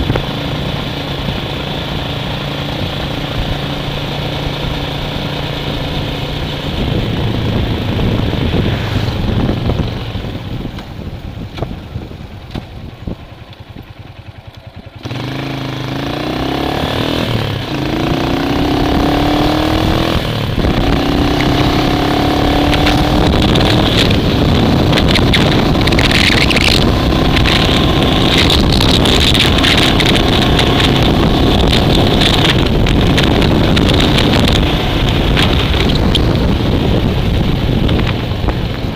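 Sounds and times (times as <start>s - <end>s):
engine accelerating: 0.0s - 10.8s, 13.6s - 38.9s
wind noise on microphone: 0.0s - 14.3s, 15.0s - 38.9s.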